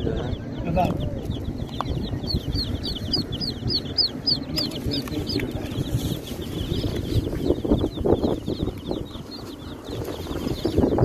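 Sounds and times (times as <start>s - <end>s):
baby chicks peeping: 0.0s - 11.0s
low background rumble: 0.0s - 11.0s.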